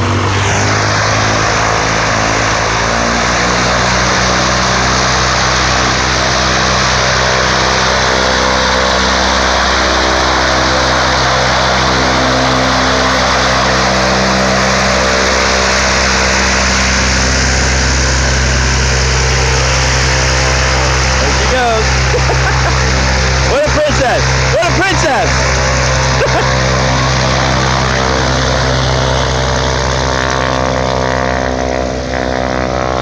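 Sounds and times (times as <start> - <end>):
propeller plane engine running: 0.0 - 33.0.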